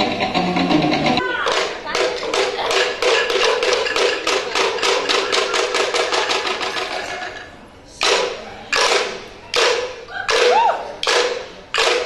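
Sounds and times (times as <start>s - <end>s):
rapid wooden percussion strokes: 0.0s - 12.0s.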